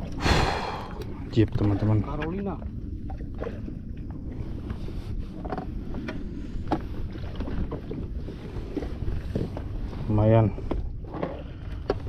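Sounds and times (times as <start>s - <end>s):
low wind: 0.0s - 12.0s
water rumble: 0.0s - 12.0s
knocks and rustles against hull: 1.0s - 12.0s.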